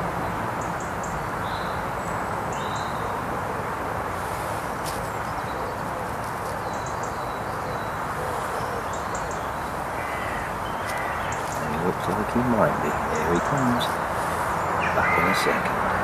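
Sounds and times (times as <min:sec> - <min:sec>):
small birds chirping: 0:00.0 - 0:03.3, 0:04.0 - 0:16.0
steady rushing hiss: 0:03.2 - 0:16.0.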